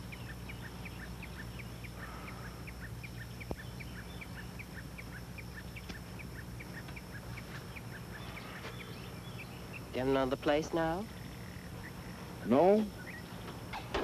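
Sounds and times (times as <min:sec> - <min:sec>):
small animal chirping: 0:00.0 - 0:13.8
low steady hum: 0:00.0 - 0:14.0.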